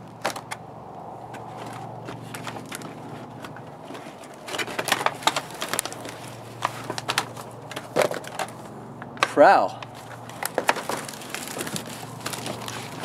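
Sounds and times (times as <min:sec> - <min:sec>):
plastic packaging crackling: 0:01.4 - 0:08.7, 0:09.9 - 0:13.0.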